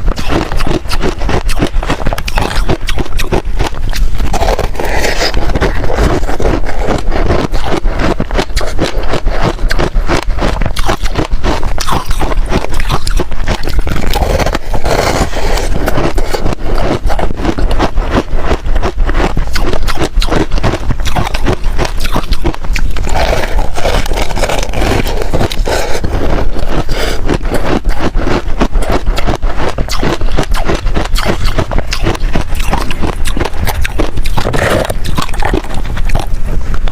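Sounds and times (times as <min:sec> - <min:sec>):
crunching and chewing frost: 0:00.0 - 0:36.9.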